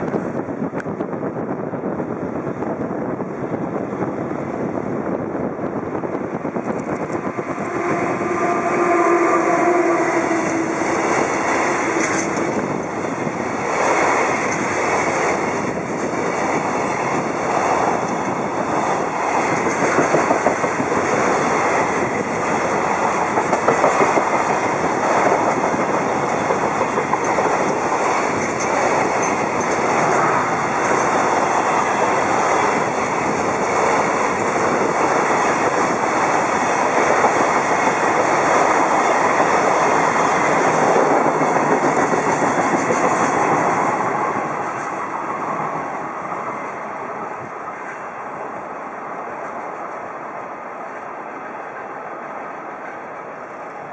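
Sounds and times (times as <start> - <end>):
train wheels rumbling and clacking: 0.0 - 50.2
electric locomotive whine: 0.0 - 53.9.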